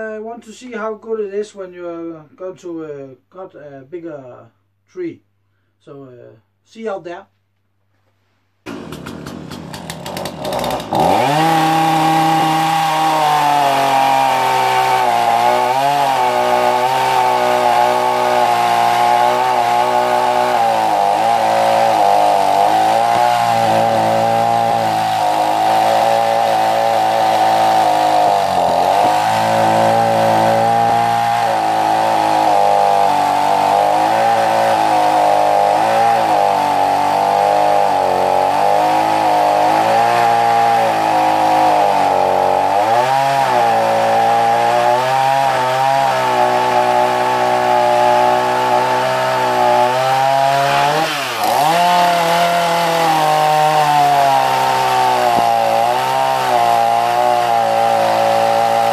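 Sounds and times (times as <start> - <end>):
chainsaw cutting wood: 8.6 - 58.9.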